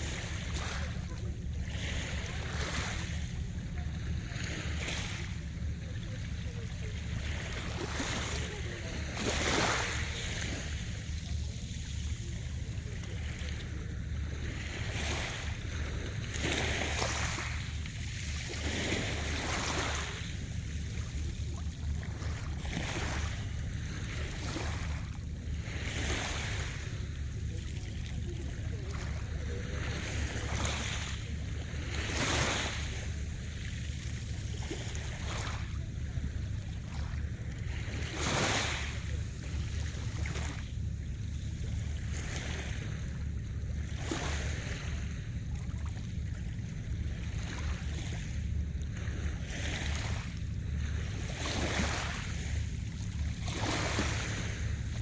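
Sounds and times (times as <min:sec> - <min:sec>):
sea waves breaking: 0:00.0 - 0:55.0.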